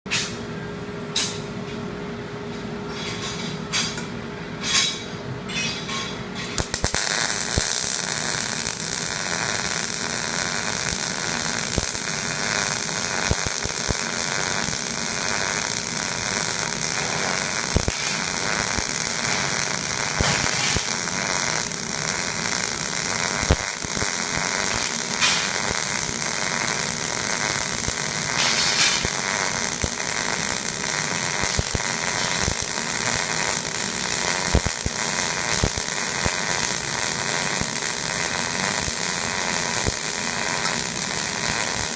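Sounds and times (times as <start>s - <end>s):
electric welding arc crackling: 6.6s - 41.9s.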